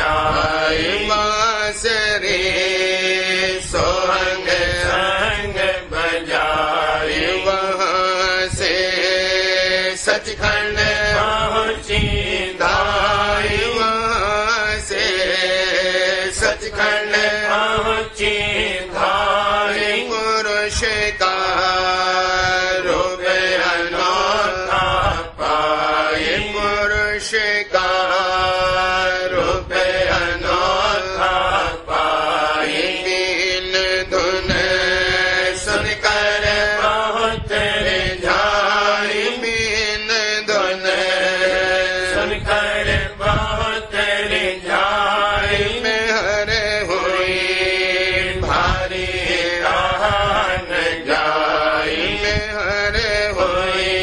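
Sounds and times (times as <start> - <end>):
steady drone: 0.0 - 54.0.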